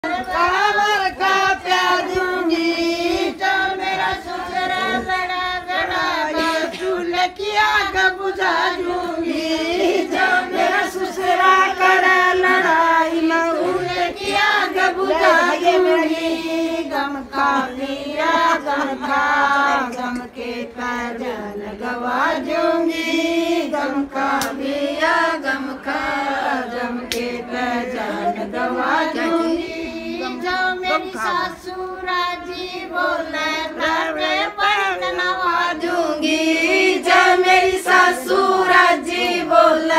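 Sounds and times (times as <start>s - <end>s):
women singing in chorus: 0.0s - 39.9s.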